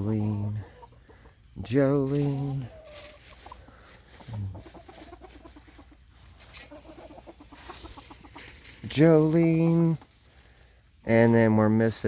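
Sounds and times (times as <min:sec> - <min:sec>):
hens clucking: 0:00.0 - 0:11.9.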